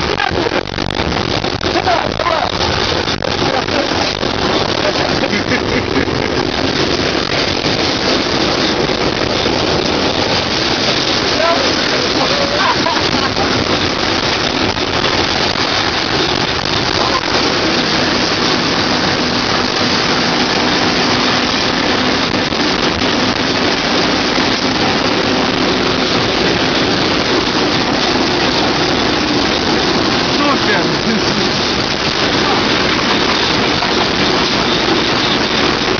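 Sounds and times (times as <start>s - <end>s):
trains running on rails: 0.0s - 35.9s
wind through train window: 0.0s - 35.9s.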